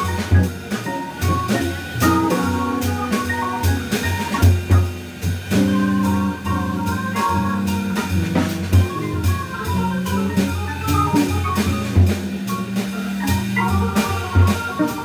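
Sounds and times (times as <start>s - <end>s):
drum kit cymbal strokes: 0.0s - 15.0s
electric organ: 0.0s - 15.0s.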